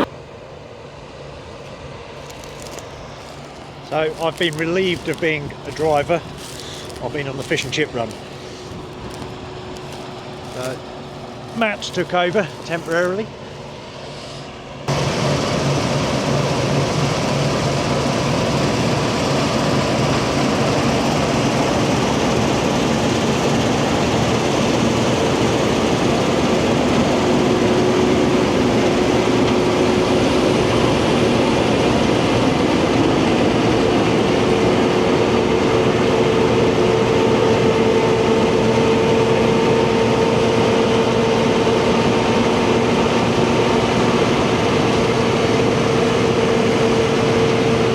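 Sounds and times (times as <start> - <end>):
heavy diesel machinery running: 2.1 - 47.9.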